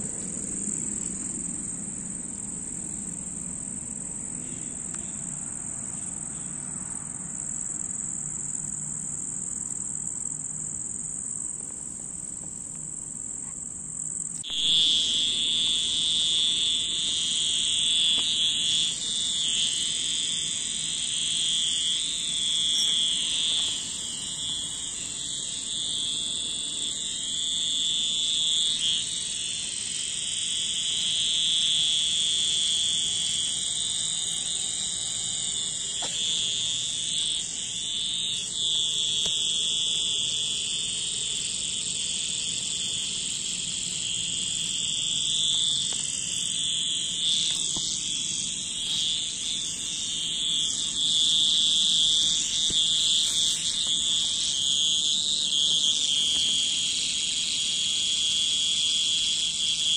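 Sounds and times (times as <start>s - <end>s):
cicadas shrilling: 0.0s - 59.9s
louder lower cicada buzz: 0.0s - 59.9s.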